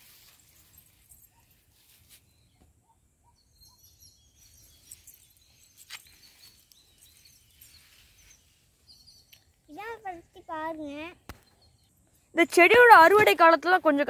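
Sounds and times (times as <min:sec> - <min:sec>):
faint high chirps: 0:00.1 - 0:12.4.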